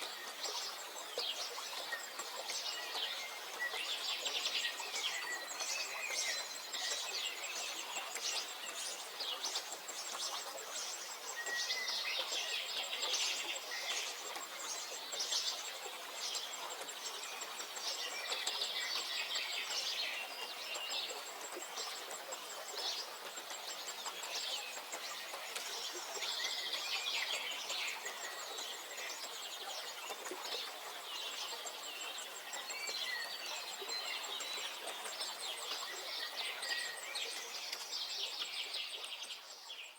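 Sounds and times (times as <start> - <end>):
songbirds singing and chirping: 0.0 - 39.9
steady background hiss: 0.0 - 39.9.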